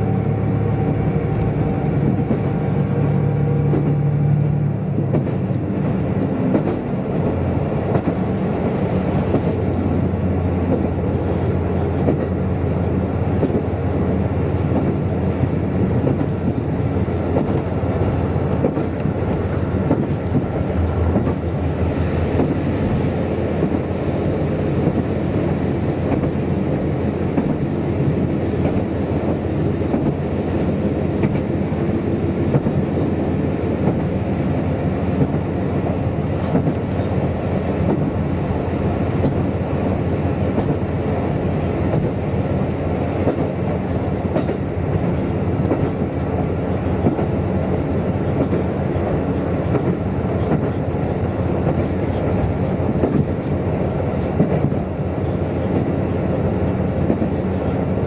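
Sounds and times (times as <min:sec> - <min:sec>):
train engine and rolling drone: 0:00.0 - 0:58.0.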